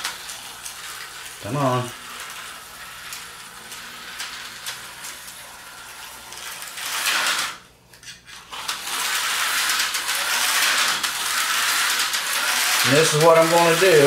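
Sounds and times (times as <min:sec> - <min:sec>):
slot car electric whir: 0:00.0 - 0:14.0.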